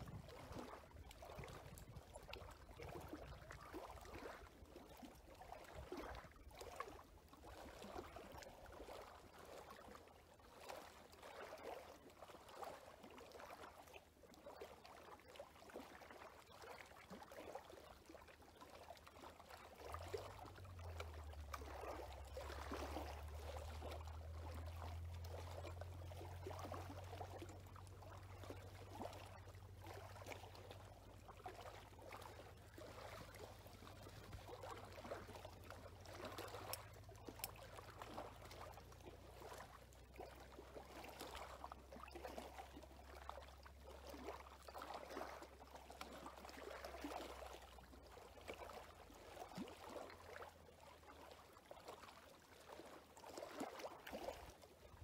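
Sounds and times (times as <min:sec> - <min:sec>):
faint trickling water: 0:00.0 - 0:55.0.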